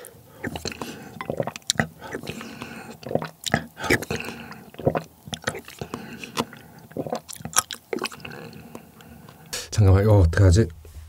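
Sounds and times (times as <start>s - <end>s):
slurping broth: 0.0s - 9.5s.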